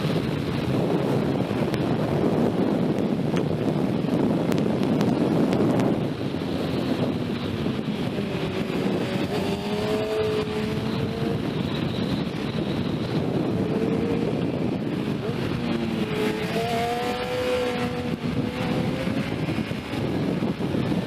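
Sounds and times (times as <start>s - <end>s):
motorcycle engine accelerating: 0.0s - 21.0s
wind noise on microphone: 0.0s - 21.0s.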